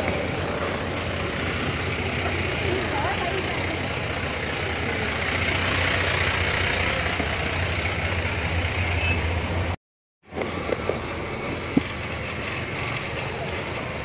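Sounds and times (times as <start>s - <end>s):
street noise: 0.0s - 14.0s
vehicle engine idling: 0.0s - 14.0s.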